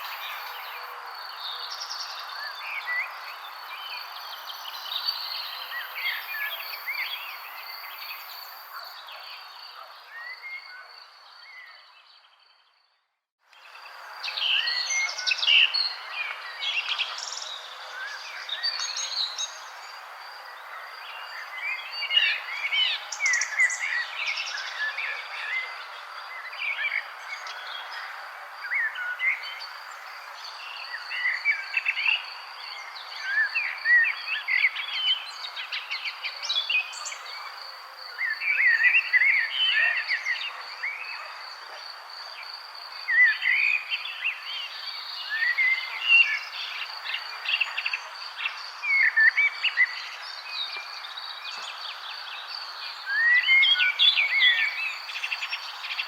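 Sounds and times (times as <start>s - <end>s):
songbirds chirping and singing: 0.0s - 12.8s, 13.6s - 41.7s, 43.0s - 56.0s.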